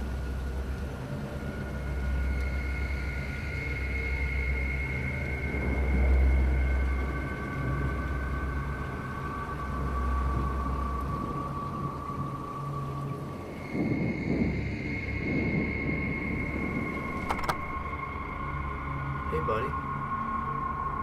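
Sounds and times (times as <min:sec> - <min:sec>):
low suspense rumble: 0:00.0 - 0:21.0.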